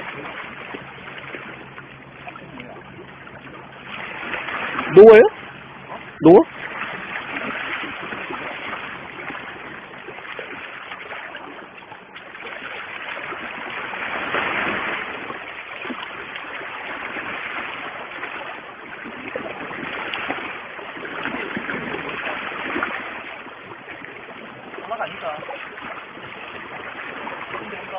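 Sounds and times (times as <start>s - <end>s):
water lapping against rocks: 0.0s - 27.9s.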